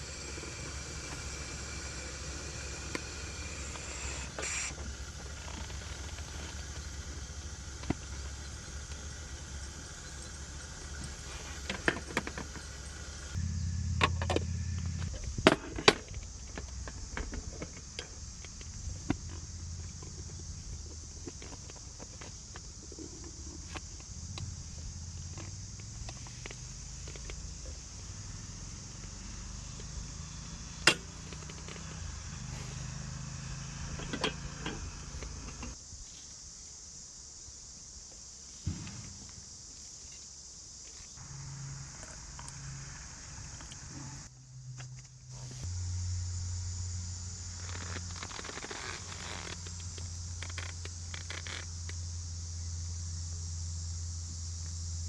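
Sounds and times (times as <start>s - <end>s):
steady low hum: 0.0s - 35.8s, 41.1s - 55.0s
steady high hiss: 0.0s - 55.0s.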